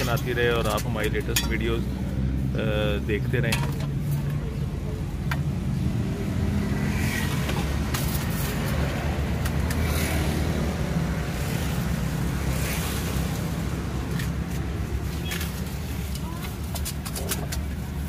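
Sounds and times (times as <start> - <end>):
low rumble of street noise: 0.0 - 18.0.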